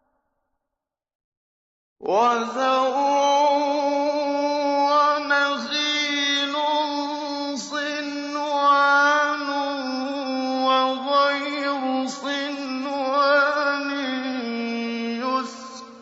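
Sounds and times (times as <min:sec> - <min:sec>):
man reciting melodically: 0:02.0 - 0:16.0.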